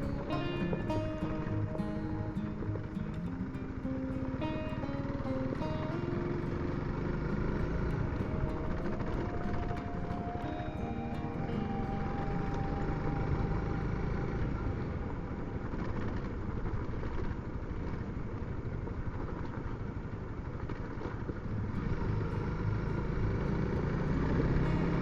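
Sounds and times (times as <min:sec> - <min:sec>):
wind noise: 0:00.0 - 0:23.7
motorcycle engine running: 0:00.0 - 0:25.0.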